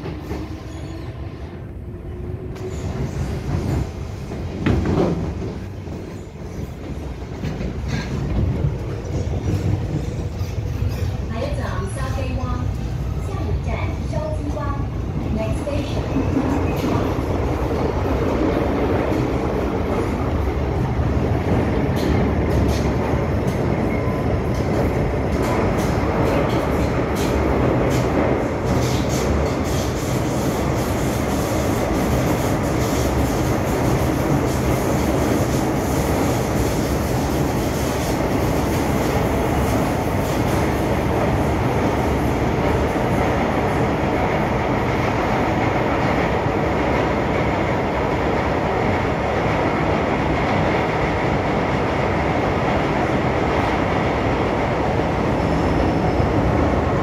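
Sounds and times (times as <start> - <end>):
train rumble from inside: 0.0 - 57.0.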